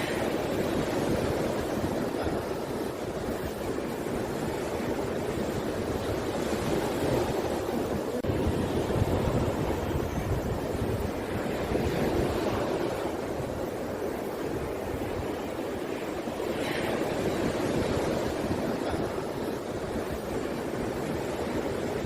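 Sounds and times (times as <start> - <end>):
waves rushing: 0.0 - 22.0
wind buffeting microphone: 0.0 - 22.0.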